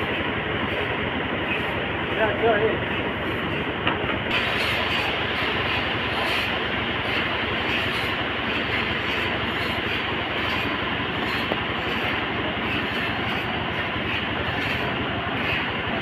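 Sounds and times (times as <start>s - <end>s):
sawmill machinery din: 0.0s - 16.0s.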